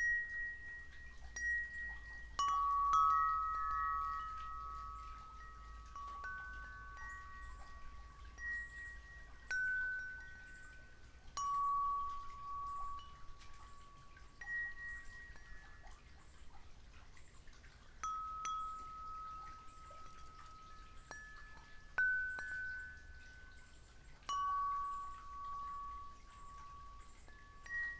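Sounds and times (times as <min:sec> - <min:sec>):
metal chimes ringing: 0:00.0 - 0:27.9.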